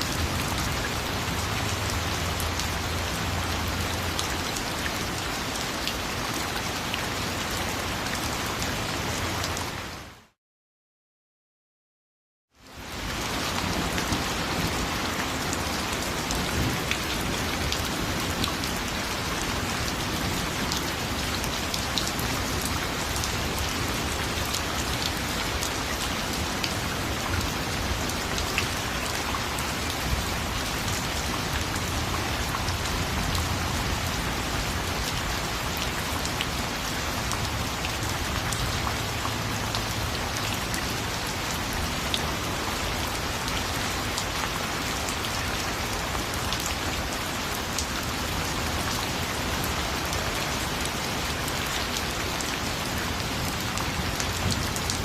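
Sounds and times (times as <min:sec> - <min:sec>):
rain falling on a surface: 0:00.0 - 0:10.4, 0:12.5 - 0:55.0.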